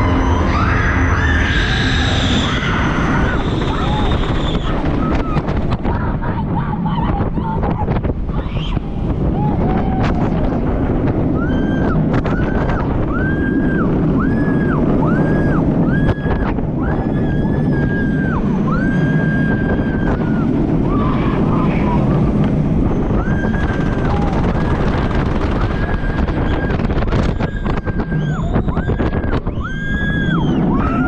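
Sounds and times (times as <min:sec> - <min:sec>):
riders screaming: 0:00.0 - 0:22.2, 0:22.9 - 0:31.0
roller coaster train on track: 0:00.0 - 0:31.0
wind buffeting microphone: 0:00.0 - 0:31.0.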